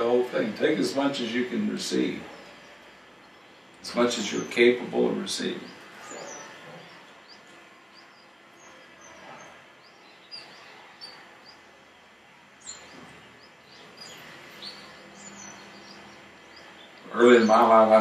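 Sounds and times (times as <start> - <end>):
steady background hiss: 0.0 - 18.0
faint bird chirps: 0.9 - 18.0.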